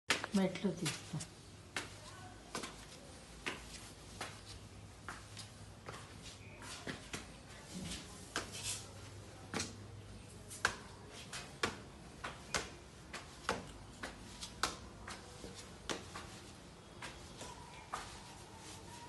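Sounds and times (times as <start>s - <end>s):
footsteps on cement stairs: 0.1s - 19.0s.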